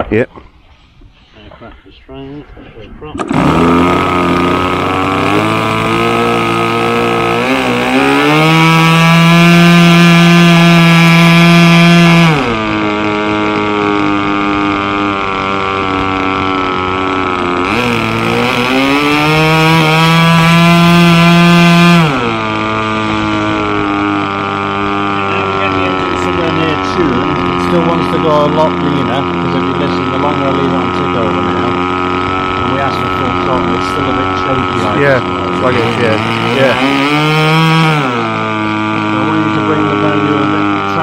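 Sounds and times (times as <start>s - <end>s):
model plane engine revving: 3.2s - 41.0s.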